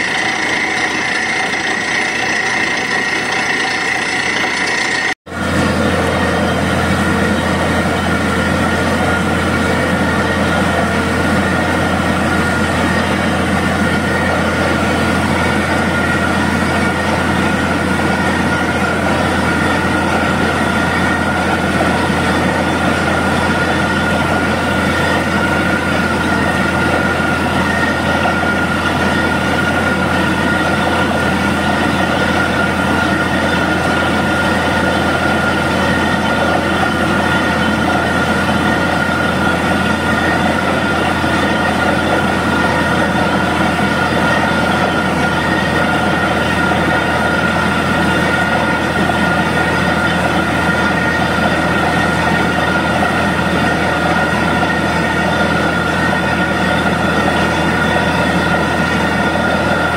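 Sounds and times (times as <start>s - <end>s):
drilling rig running: 0.0s - 59.9s.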